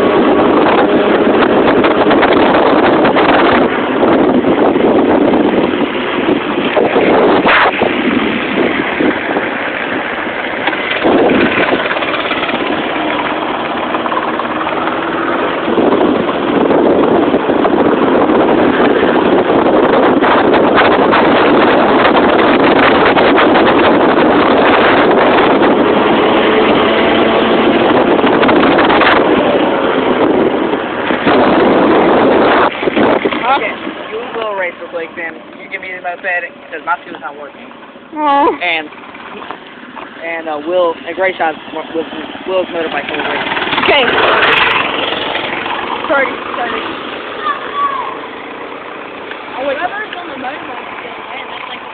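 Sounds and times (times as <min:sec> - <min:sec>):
small motorbike engine: 0:00.0 - 0:36.0, 0:41.0 - 0:51.9
wind buffeting microphone: 0:00.0 - 0:51.9.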